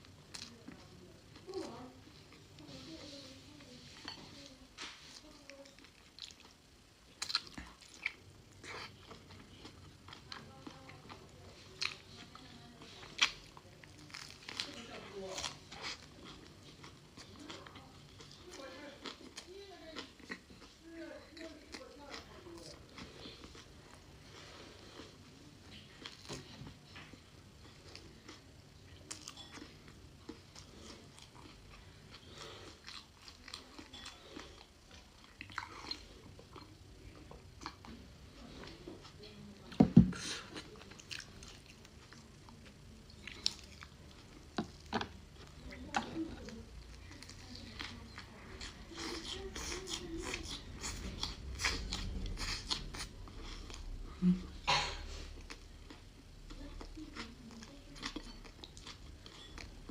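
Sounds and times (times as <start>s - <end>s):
person chewing: 0.0s - 2.7s, 4.8s - 38.8s, 39.9s - 59.9s.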